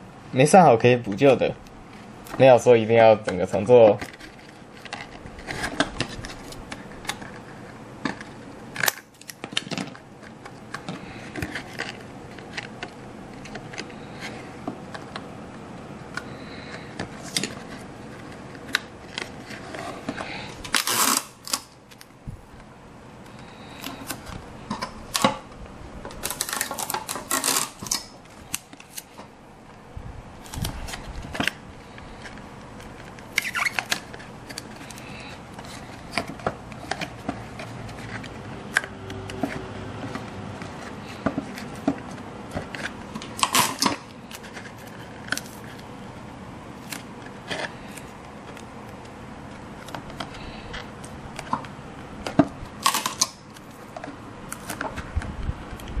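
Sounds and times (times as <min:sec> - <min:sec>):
crackling handling: 0:01.0 - 0:29.8, 0:30.4 - 0:56.0.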